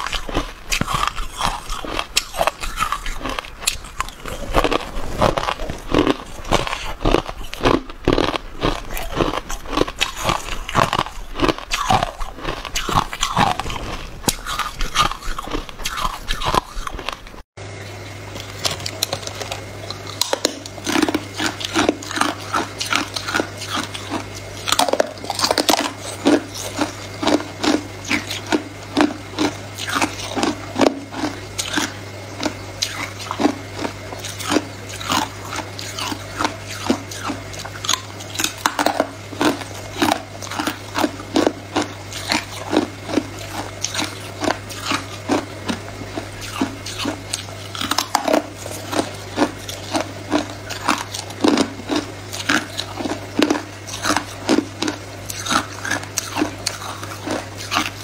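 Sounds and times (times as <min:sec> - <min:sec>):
ice crunching in the mouth: 0:00.0 - 0:17.4, 0:18.4 - 0:58.0
steady low hum: 0:00.0 - 0:58.0.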